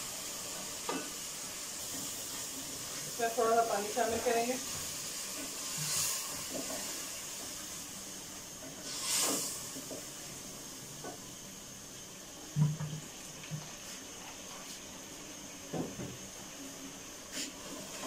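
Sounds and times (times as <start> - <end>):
masala sizzling in a pot: 0.0 - 18.0.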